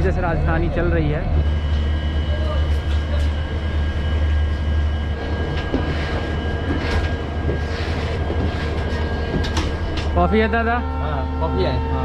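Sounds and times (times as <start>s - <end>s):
train machinery drone: 0.0s - 12.0s.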